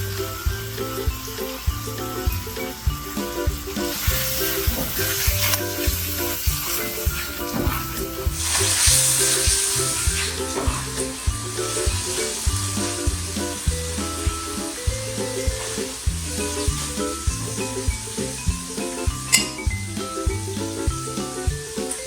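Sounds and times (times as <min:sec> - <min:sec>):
cheerful music with bouncy bass: 0:00.0 - 0:22.0
food sizzling in a pot: 0:00.0 - 0:22.0.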